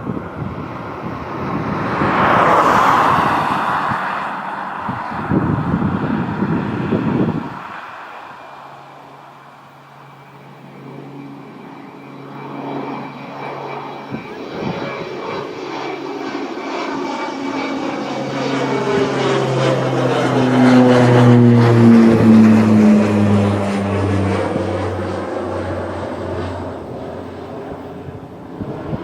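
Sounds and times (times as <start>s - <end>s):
jet airliner passing by: 0.0s - 29.0s.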